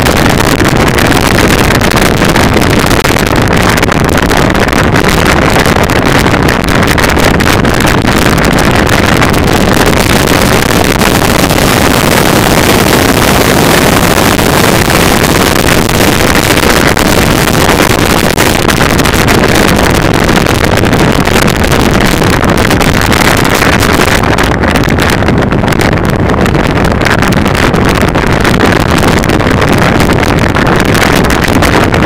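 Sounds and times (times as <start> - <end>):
motorcycle engine drone: 0.0 - 32.0
wind rush over microphone: 0.0 - 32.0.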